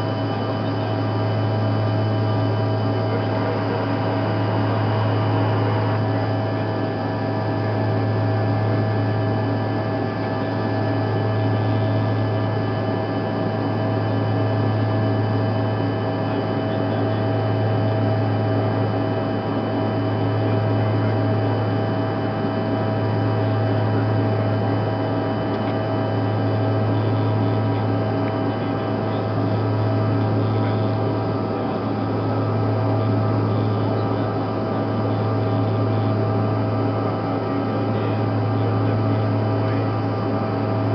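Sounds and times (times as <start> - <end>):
jet engine and airflow drone: 0.0 - 40.9
pulsing low hum: 0.0 - 40.9
steady whining tones: 0.0 - 40.9.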